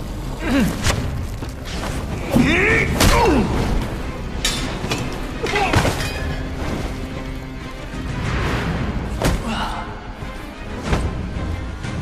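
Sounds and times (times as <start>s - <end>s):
action film music: 0.0s - 12.0s.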